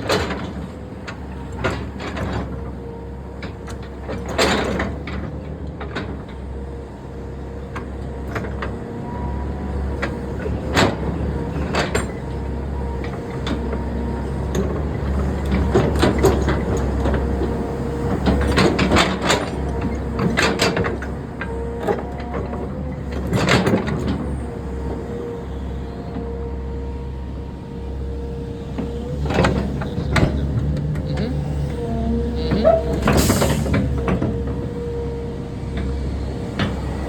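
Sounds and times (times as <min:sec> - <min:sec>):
construction machinery engine: 0:00.0 - 0:37.0.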